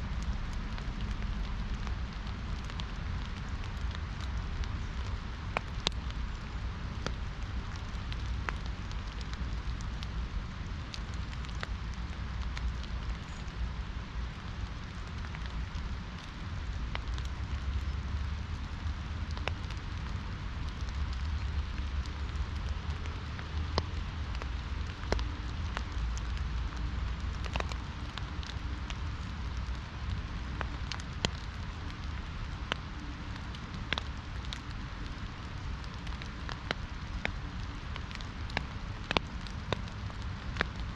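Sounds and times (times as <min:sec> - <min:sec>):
raindrops striking an umbrella: 0:00.0 - 0:40.9
steady low rumble: 0:00.0 - 0:40.9
steady rain falling: 0:00.0 - 0:40.9.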